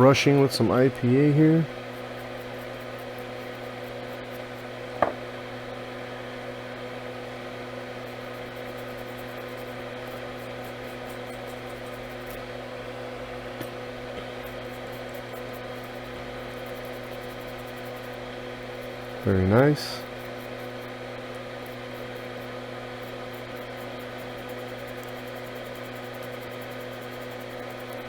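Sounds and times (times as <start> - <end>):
extractor fan humming: 0.0 - 28.0.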